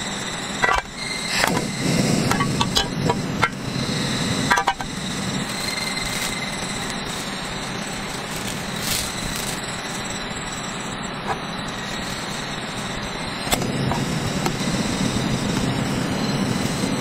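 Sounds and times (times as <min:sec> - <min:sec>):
gas flame roaring: 0:00.0 - 0:17.0
steady background rumble: 0:00.0 - 0:17.0.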